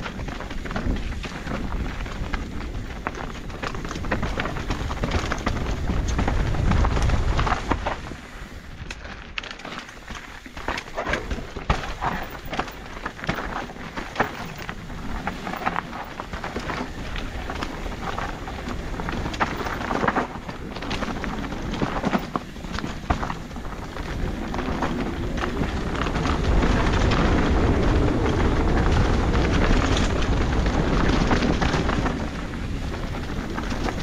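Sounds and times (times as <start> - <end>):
bike rattles and clicks: 0.0 - 34.0
tyres crunching over ground: 0.0 - 34.0
wind rumble on microphone: 0.0 - 34.0.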